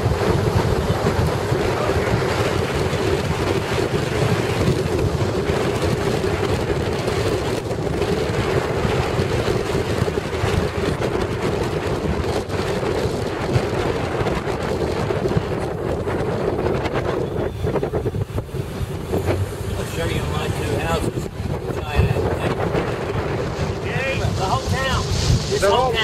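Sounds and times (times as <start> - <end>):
road noise inside a car: 0.0 - 26.0
wind buffeting microphone: 0.0 - 26.0.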